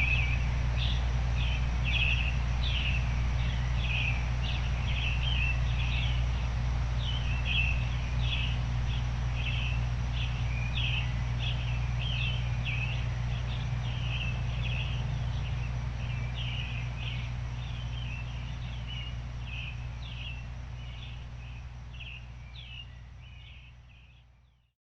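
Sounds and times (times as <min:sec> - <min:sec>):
steady low noise: 0:00.0 - 0:24.6
small songbirds chirping: 0:00.0 - 0:24.7.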